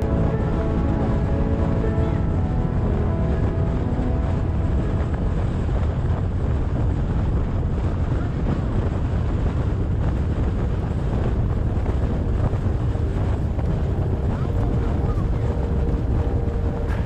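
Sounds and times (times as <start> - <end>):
motorcycle engine and road drone: 0.0 - 17.0
wind buffeting microphone: 0.0 - 17.0.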